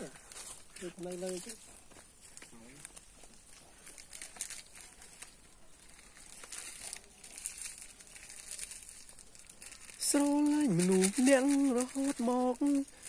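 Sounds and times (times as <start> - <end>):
dry leaves rustling: 0.0 - 13.0.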